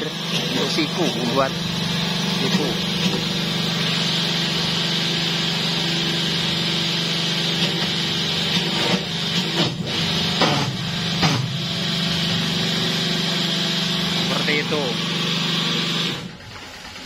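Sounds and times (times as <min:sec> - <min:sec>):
hydraulic press brake humming: 0:00.0 - 0:17.0.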